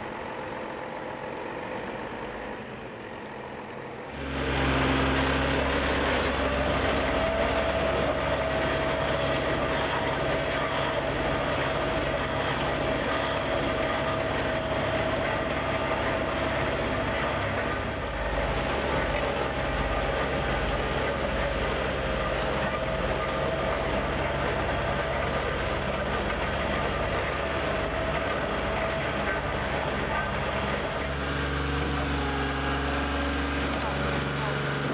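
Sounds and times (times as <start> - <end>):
heavy diesel engine running: 0.0 - 34.9
steady whine: 0.0 - 34.9.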